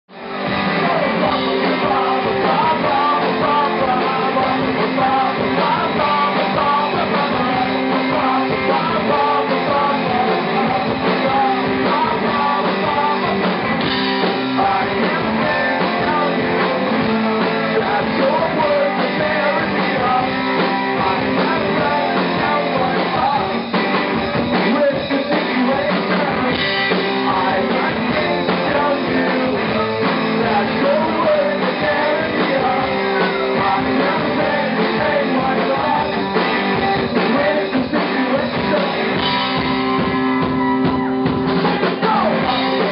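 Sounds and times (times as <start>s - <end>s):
rock band playing live: 0.1s - 42.9s
man singing into a microphone: 0.6s - 39.6s, 41.6s - 42.9s.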